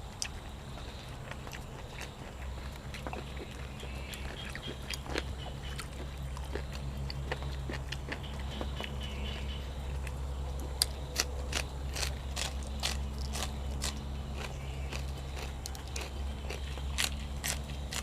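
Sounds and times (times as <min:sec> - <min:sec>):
person chewing crunchy food: 0:00.0 - 0:18.0
steady low hum: 0:00.0 - 0:18.0.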